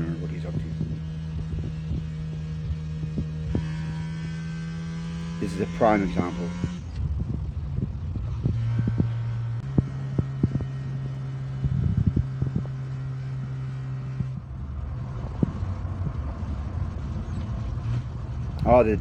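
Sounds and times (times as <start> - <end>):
van engine drone: 0.0 - 19.0.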